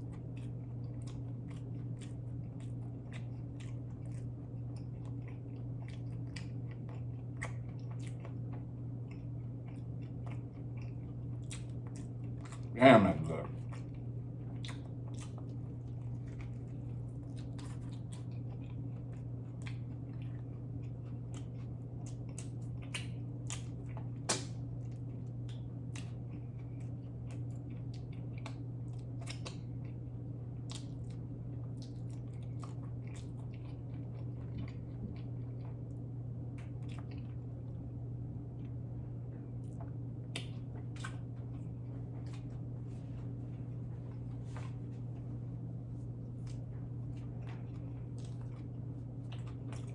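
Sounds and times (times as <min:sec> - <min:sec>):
close chewing with mouth clicks: 0:00.0 - 0:12.8, 0:13.4 - 0:37.9, 0:39.6 - 0:43.3, 0:46.0 - 0:49.9
low steady hum: 0:00.0 - 0:49.9.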